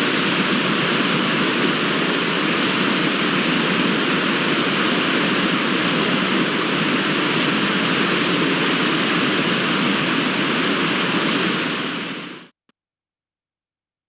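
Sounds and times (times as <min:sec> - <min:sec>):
rushing water roar: 0:00.0 - 0:12.4.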